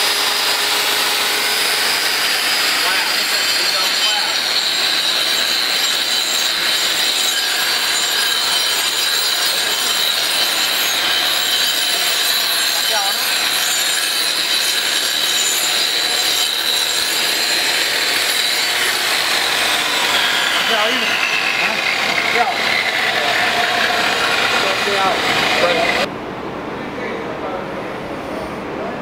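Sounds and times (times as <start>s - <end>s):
angle grinder grinding concrete: 0.0s - 26.1s.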